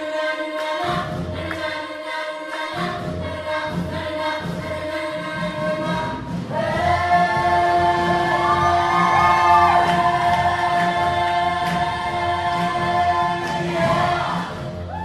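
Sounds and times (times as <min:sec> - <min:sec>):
vocal ensemble singing harmony: 0:00.0 - 0:15.0.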